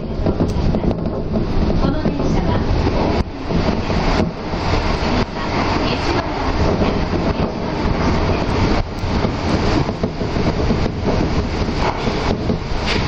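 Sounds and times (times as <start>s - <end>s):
monorail car running in tunnel: 0.0s - 13.0s.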